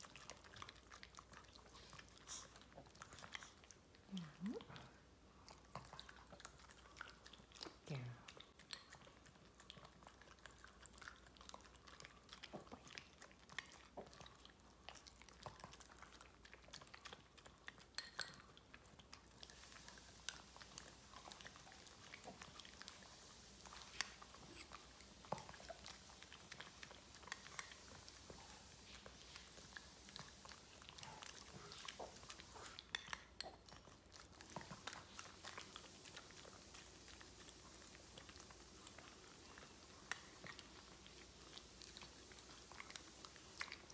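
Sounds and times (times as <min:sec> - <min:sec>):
dogs licking and chewing: 0:00.0 - 0:43.9.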